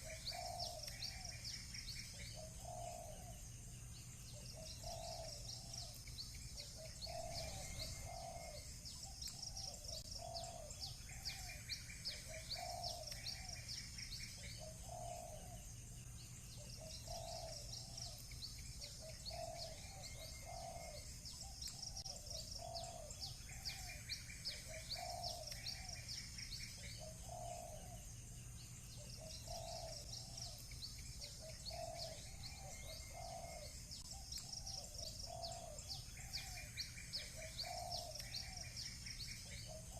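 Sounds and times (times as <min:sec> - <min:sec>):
doves cooing: 0:00.0 - 0:03.5, 0:04.3 - 0:15.7, 0:16.6 - 0:28.1, 0:28.9 - 0:39.9
small birds chirping: 0:00.0 - 0:39.9.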